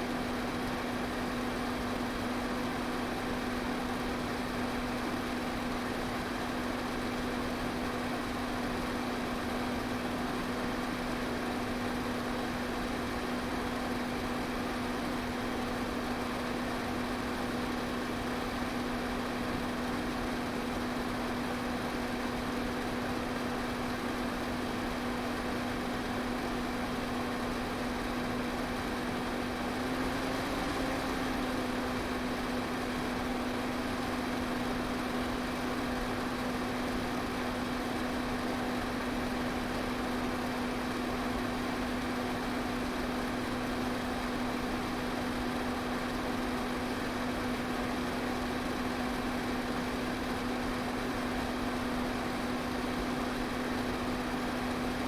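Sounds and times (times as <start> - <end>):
electric fan running: 0.0 - 55.0.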